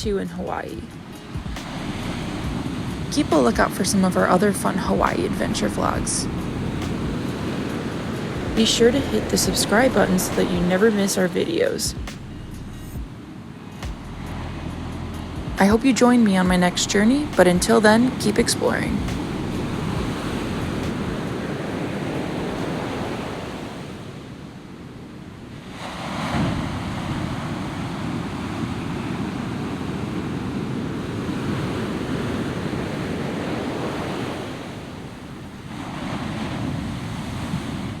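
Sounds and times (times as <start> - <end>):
ocean surf washing onto beach: 0.0 - 12.3, 13.1 - 38.0.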